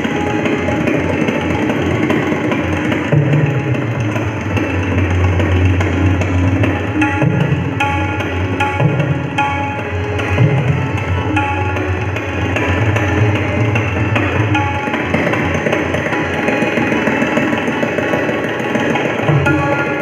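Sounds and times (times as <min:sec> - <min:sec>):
harmonium melody: 0:00.0 - 0:20.0
tabla strokes: 0:00.0 - 0:20.0.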